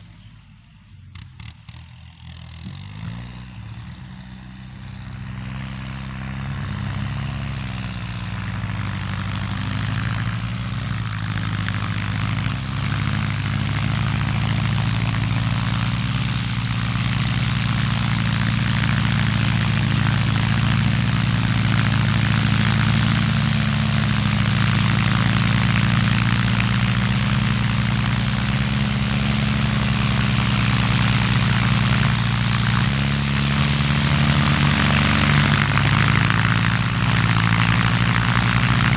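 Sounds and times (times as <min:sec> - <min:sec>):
diesel tractor engine working: 0:00.0 - 0:38.9.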